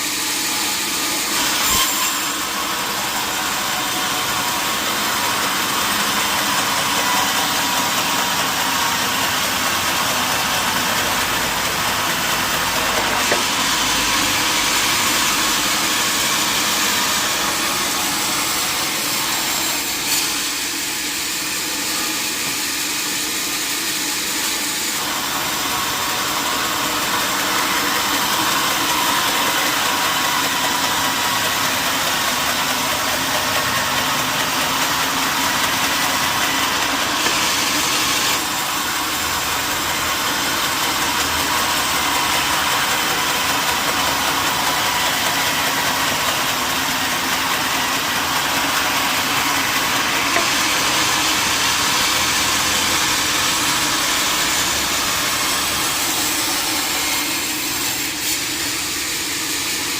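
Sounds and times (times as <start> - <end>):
sawmill saw cutting timber: 0.0 - 59.9.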